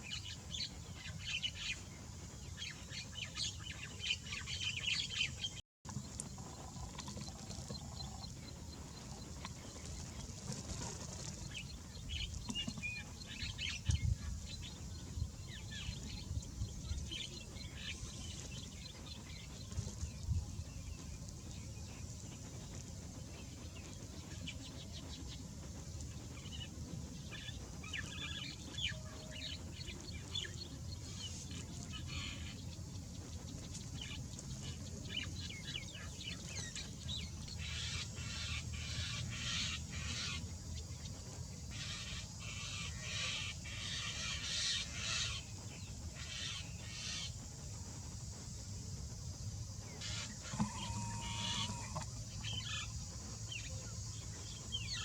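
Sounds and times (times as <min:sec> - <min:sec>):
birds chirping and twittering: 0:00.0 - 0:55.0
steady low rumble: 0:00.0 - 0:55.0.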